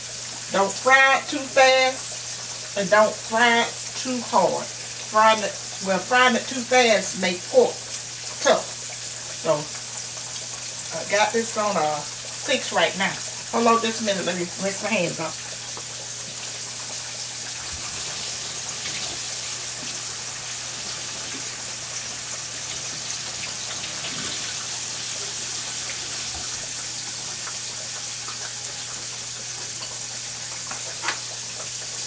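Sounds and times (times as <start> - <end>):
meat frying in hot oil: 0.0 - 32.0.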